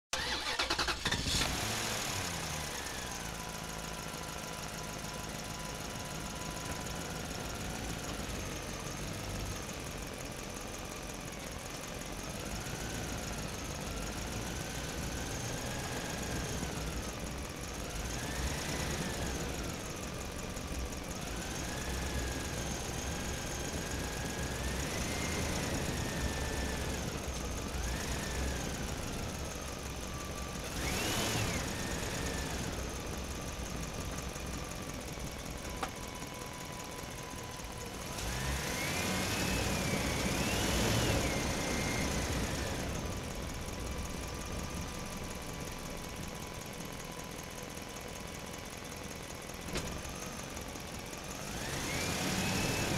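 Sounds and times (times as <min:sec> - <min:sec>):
truck engine running: 0:00.1 - 0:52.9.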